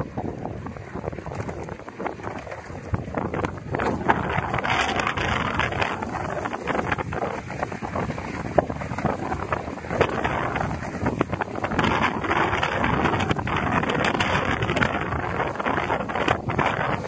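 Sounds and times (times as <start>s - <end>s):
rushing water and spray: 0.0s - 17.0s
wind buffeting the microphone: 0.0s - 17.0s.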